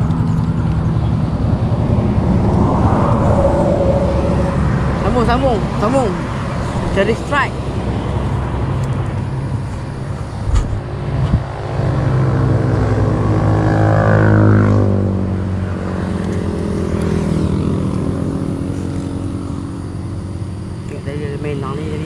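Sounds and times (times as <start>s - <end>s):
vehicle driving past: 0.0s - 20.9s.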